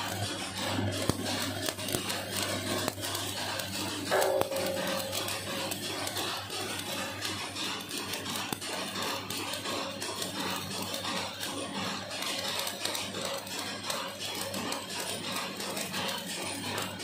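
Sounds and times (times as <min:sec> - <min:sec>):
welding arc crackling: 0:00.0 - 0:17.0.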